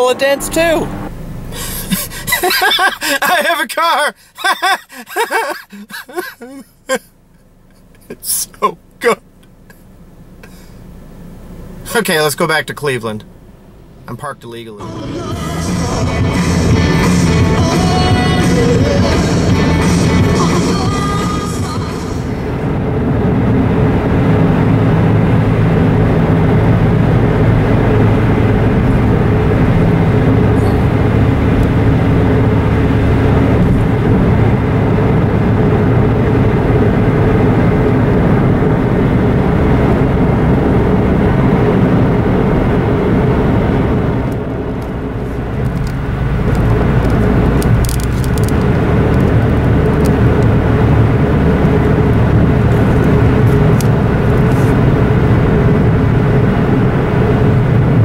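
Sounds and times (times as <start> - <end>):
car engine and tyre hum: 0.0 - 58.0.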